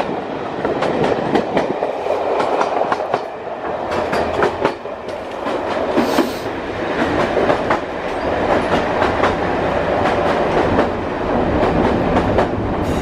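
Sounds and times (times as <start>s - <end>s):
train rumble under floor: 0.0s - 13.0s.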